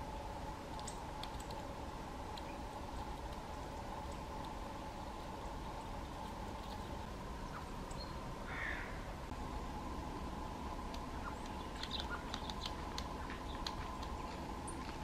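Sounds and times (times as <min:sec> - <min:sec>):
woodpeckers pecking: 0:00.0 - 0:08.9, 0:10.8 - 0:15.0.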